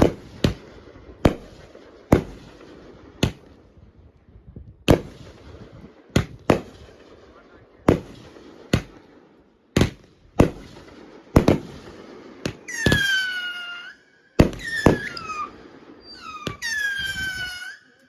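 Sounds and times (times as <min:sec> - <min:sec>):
firecracker bangs: 0:00.0 - 0:03.5, 0:04.8 - 0:07.0, 0:07.9 - 0:09.1, 0:09.7 - 0:13.8, 0:14.4 - 0:18.0.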